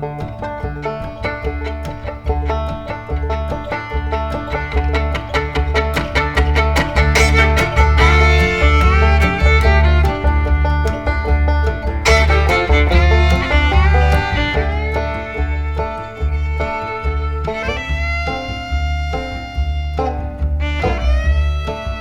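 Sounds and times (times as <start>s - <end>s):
bluegrass tune with fiddle and banjo: 0.0s - 22.0s.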